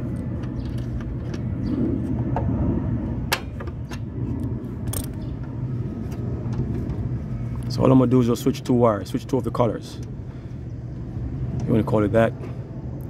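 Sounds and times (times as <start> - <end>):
low machinery drone: 0.0 - 13.0.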